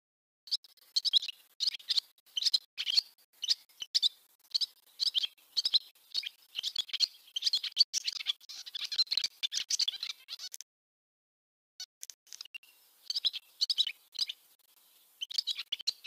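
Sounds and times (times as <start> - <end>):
swallows twittering: 0.5 - 10.6, 12.3 - 16.0.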